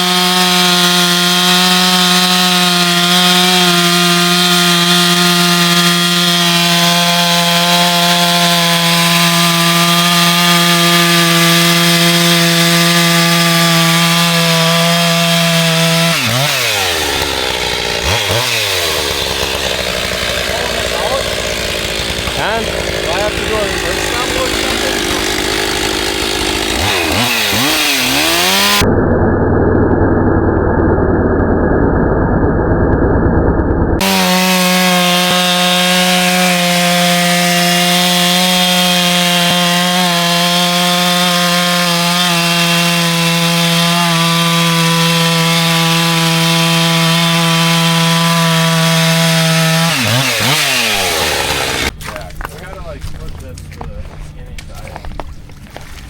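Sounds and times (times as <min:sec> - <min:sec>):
chainsaw cutting ice: 0:00.0 - 0:28.8, 0:34.0 - 0:52.0.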